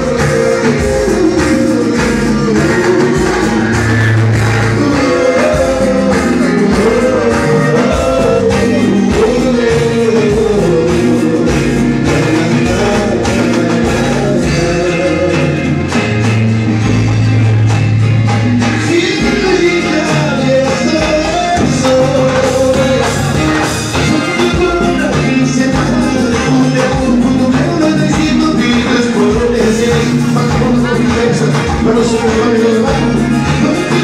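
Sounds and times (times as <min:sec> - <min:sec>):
person singing: 0:00.0 - 0:16.1, 0:18.8 - 0:34.0
live band music: 0:00.0 - 0:34.0.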